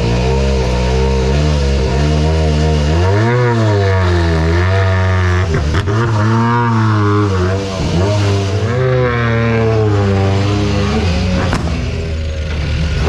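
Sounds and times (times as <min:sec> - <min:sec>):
exhaust cracks: 0:00.0 - 0:13.0
rally car engine revving: 0:00.0 - 0:13.0.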